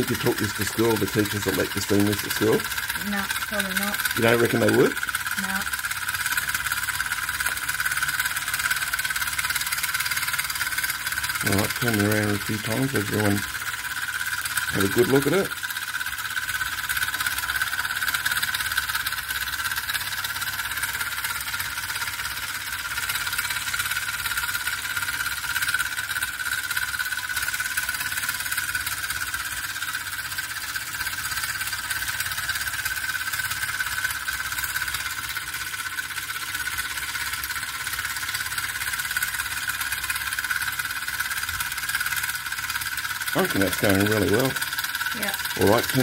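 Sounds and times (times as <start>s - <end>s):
model steam engine running: 0.0s - 46.0s.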